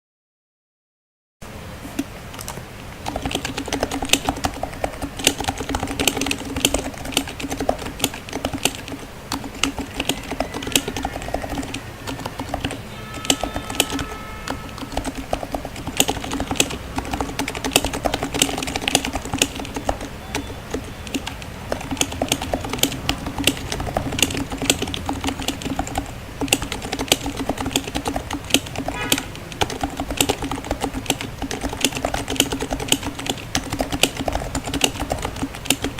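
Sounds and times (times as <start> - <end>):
keyboard typing: 1.8 - 35.9.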